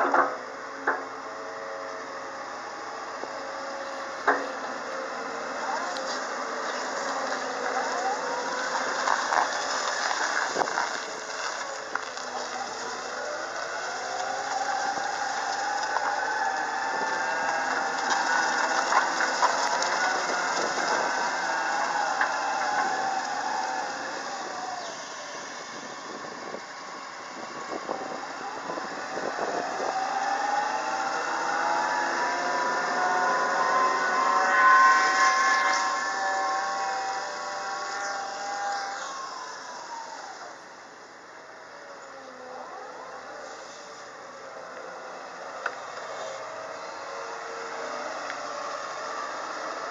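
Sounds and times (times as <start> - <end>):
excavator diesel engine running: 0.0 - 41.7
faint whine gliding in pitch: 0.0 - 49.9.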